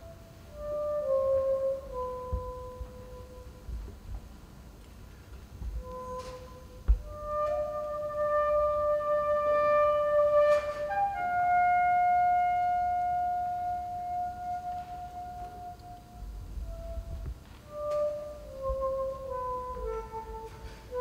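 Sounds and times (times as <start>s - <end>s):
soprano saxophone melody: 0.0s - 4.2s, 5.8s - 21.0s.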